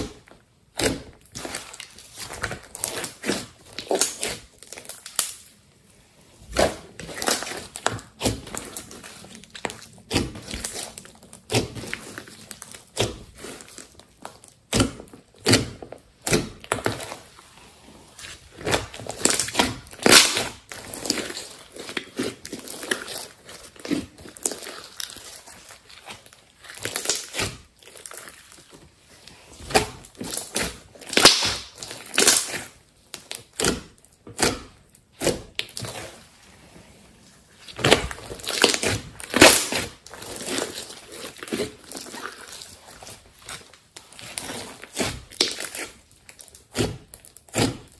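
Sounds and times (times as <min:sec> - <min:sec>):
slime squishing and crackling: 0:00.0 - 0:47.9.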